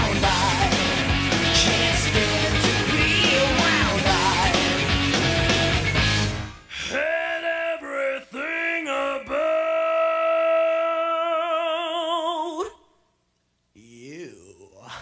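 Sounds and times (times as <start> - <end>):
person singing with vibrato: 0.0 - 4.9, 6.6 - 13.0, 13.8 - 15.0.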